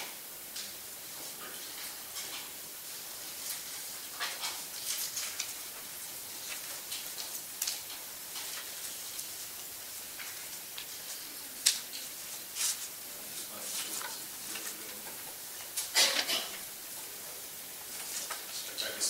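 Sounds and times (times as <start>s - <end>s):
microphone hiss: 0.0s - 19.0s.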